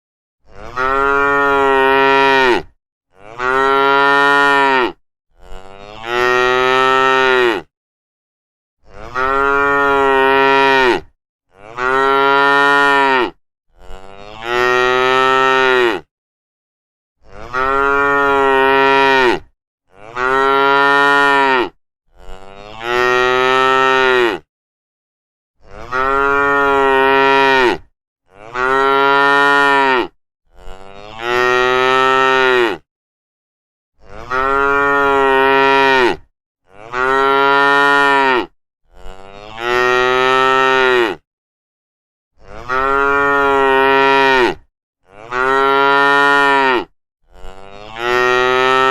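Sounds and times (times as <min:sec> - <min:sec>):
cattle mooing: 0:00.5 - 0:07.7, 0:08.9 - 0:16.1, 0:17.2 - 0:24.5, 0:25.7 - 0:32.8, 0:34.0 - 0:41.2, 0:42.4 - 0:48.9.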